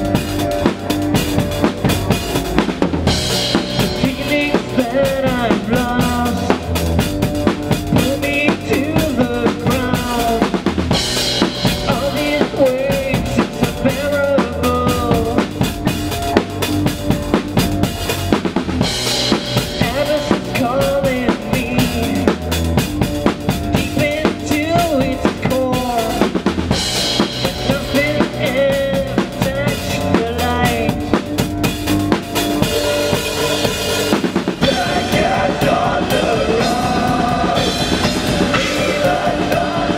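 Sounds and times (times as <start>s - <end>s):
fast blast beat drumming: 0.0s - 39.9s
recorded metal song: 0.0s - 39.9s.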